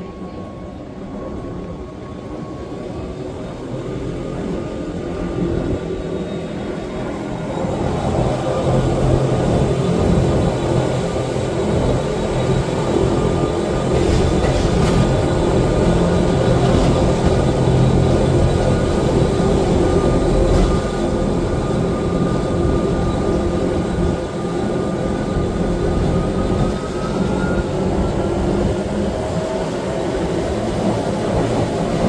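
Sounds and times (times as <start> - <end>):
train wheels and motors rumbling: 0.0 - 32.0.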